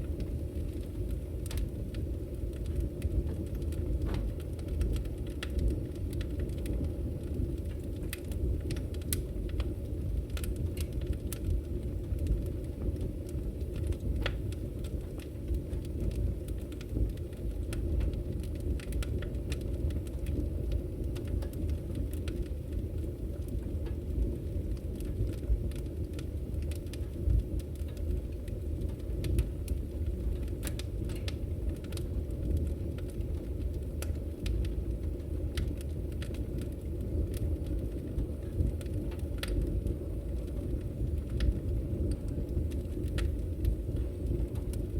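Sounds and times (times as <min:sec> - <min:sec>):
low rumble of flames: 0:00.0 - 0:44.9
wood crackling and popping: 0:00.0 - 0:44.9.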